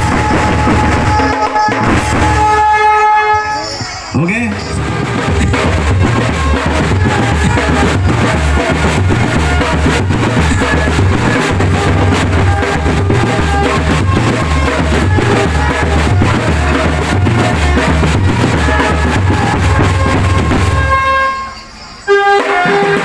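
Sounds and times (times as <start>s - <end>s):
heavy bass drum beat: 0.0s - 21.1s
drum band music: 0.0s - 23.0s.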